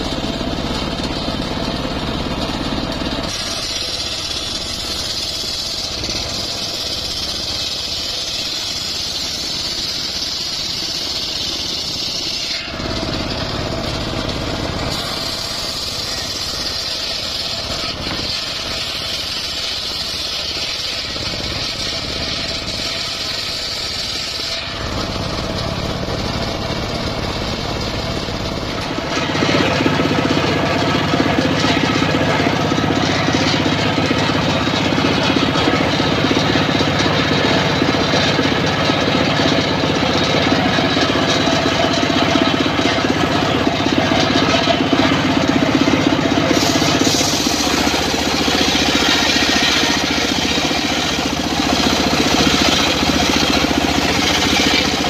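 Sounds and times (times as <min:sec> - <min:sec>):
circular saw ripping boards: 0:00.0 - 0:55.0.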